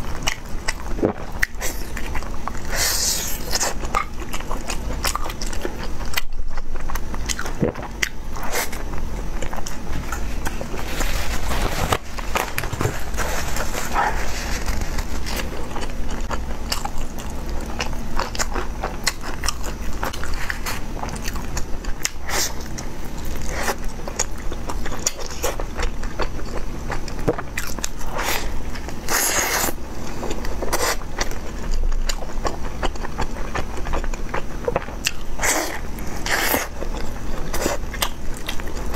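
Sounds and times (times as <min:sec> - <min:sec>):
person chewing bread: 0:00.0 - 0:38.9.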